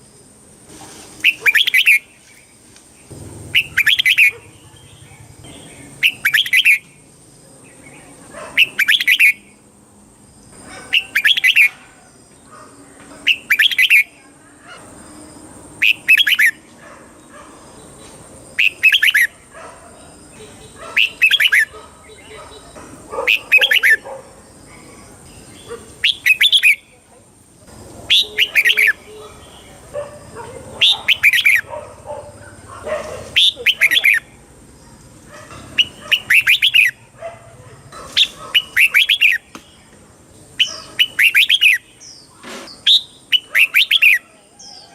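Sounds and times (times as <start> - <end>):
bulbul singing: 1.2 - 9.7, 10.5 - 12.0, 13.2 - 16.7, 17.6 - 34.4, 35.5 - 37.2, 38.0 - 44.9.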